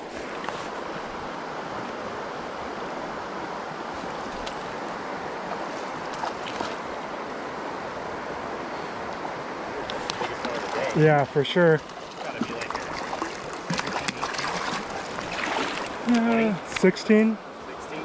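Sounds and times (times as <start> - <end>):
creek rushing over rocks: 0.0 - 18.0.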